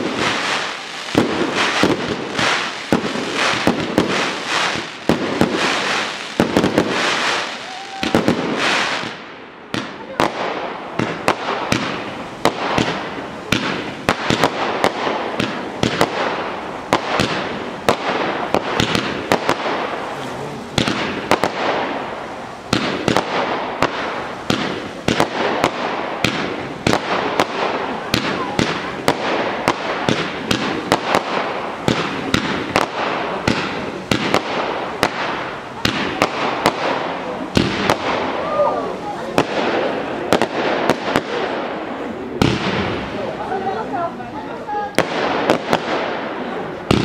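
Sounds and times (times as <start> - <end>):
fireworks hiss and crackle: 0.0 - 47.0
fireworks launch and burst bangs: 0.0 - 47.0.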